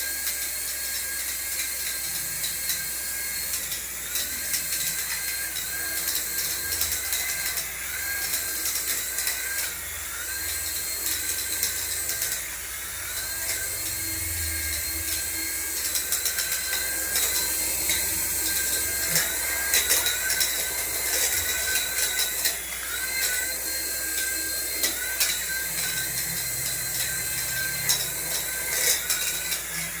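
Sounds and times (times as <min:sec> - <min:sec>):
small electric motor whining: 0:00.0 - 0:30.0.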